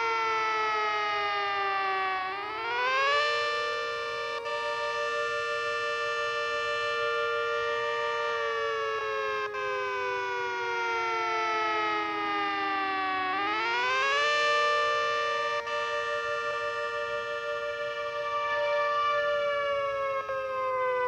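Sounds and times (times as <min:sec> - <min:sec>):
two-tone siren sounding: 0:00.0 - 0:21.0.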